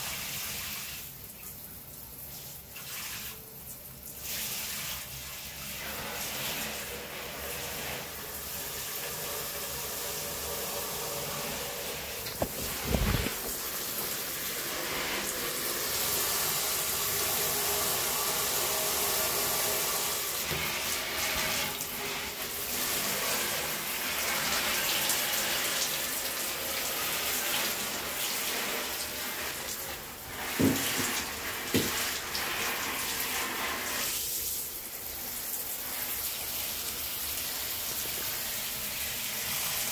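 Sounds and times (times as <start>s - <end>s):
shower spray hissing on plants: 0.0s - 39.9s.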